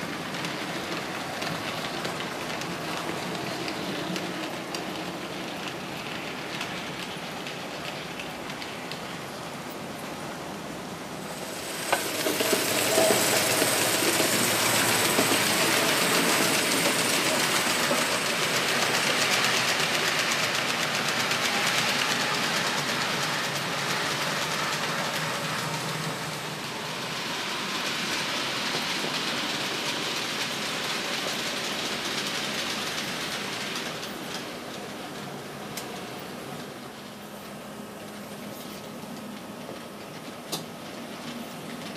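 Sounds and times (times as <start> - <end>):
model train clattering on rails: 0.0 - 41.9.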